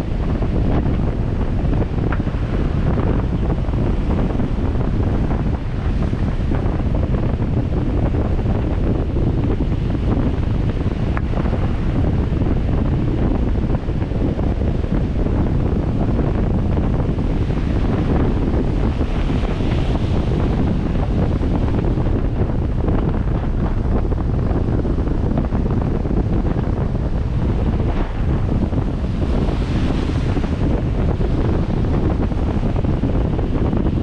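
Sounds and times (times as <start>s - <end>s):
surf breaking: 0.0s - 34.0s
wind buffeting microphone: 0.0s - 34.0s.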